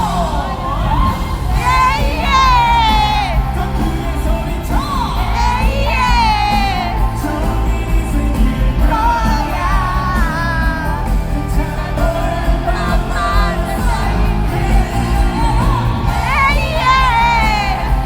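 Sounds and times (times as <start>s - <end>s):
full band playing: 0.0s - 18.0s
man singing live: 0.0s - 18.0s.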